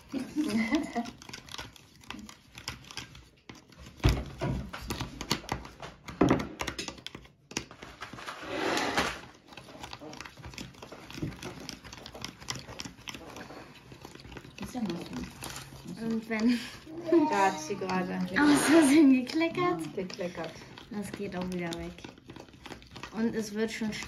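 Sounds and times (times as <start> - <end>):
spoon stirring in plastic cup: 0.0 - 24.0.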